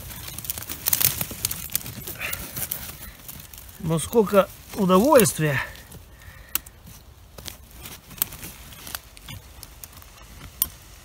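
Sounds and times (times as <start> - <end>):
dry twigs crackling and snapping: 0.0 - 11.0.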